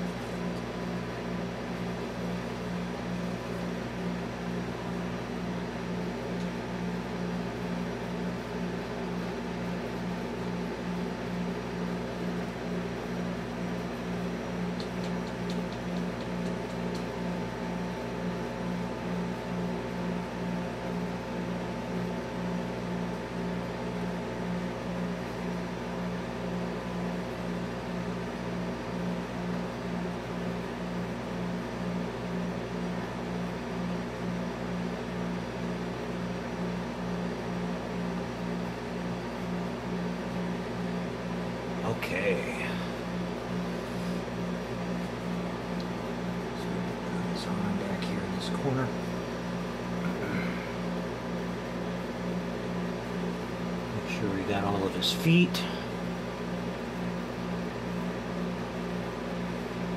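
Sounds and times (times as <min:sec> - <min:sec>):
motor humming with regular throb: 0:00.0 - 0:59.9.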